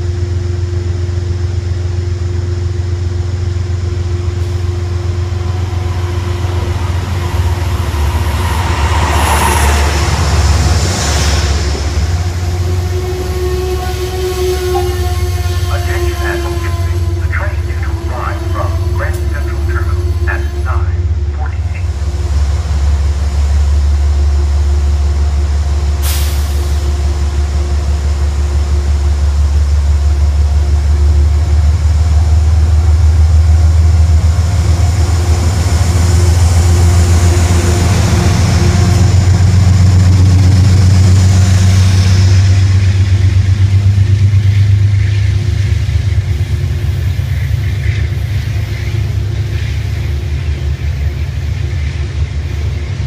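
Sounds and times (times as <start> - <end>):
diesel locomotive engine rumbling: 0.0 - 53.0
train coaches rolling: 3.6 - 53.0.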